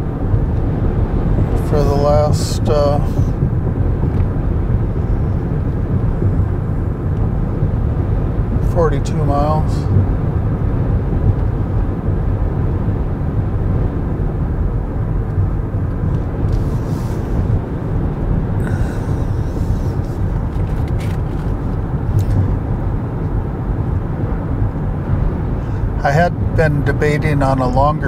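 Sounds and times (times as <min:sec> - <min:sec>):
wind noise in car cabin: 0:00.0 - 0:28.0.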